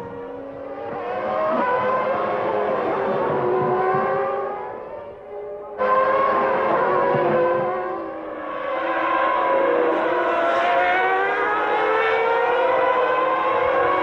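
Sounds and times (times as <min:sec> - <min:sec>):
racing car engines at high revs: 0:00.0 - 0:14.0.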